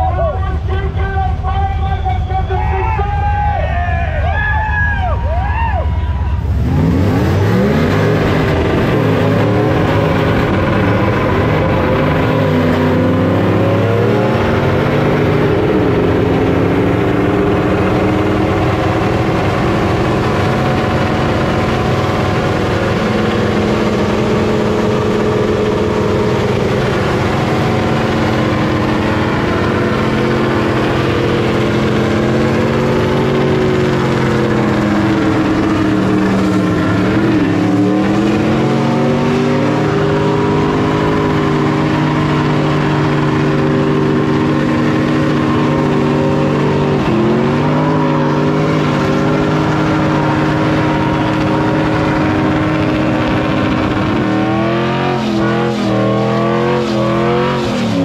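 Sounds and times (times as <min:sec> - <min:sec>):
tyres spinning on asphalt: 0:04.3 - 0:58.0
engine revving hard: 0:06.4 - 0:58.0.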